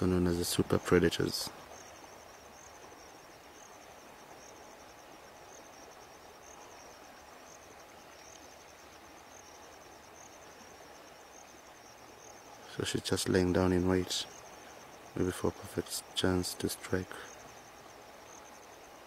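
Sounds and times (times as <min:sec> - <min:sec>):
faint outdoor hiss: 0:00.0 - 0:19.0
insects chirring: 0:00.0 - 0:19.0.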